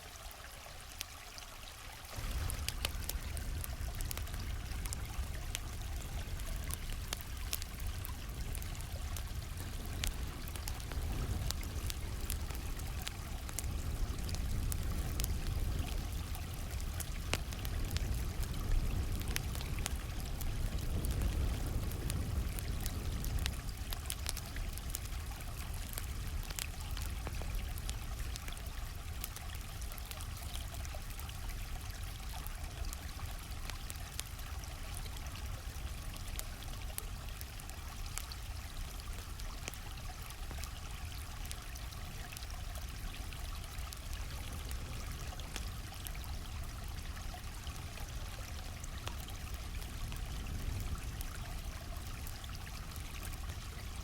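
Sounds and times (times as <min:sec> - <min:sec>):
campfire crackling: 0:00.0 - 0:54.0
stream water flowing: 0:00.0 - 0:54.0.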